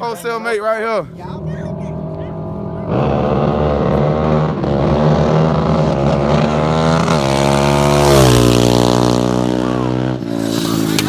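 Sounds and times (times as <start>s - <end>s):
atv engines revving: 0.0s - 11.0s.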